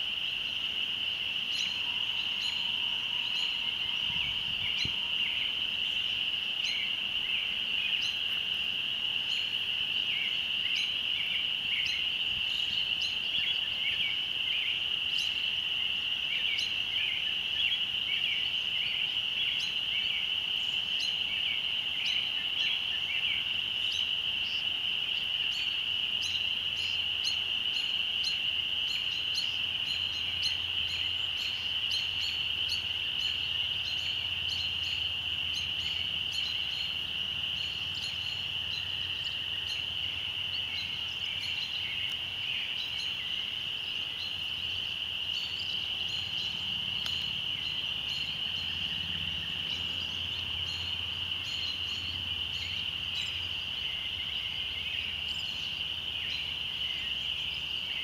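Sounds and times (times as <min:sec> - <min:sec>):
frogs peeping chorus: 0:00.0 - 0:58.0.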